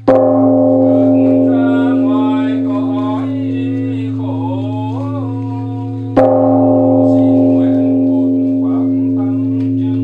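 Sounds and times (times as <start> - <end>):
large bronze bell ringing: 0.0 - 10.0
man chanting: 0.8 - 10.0.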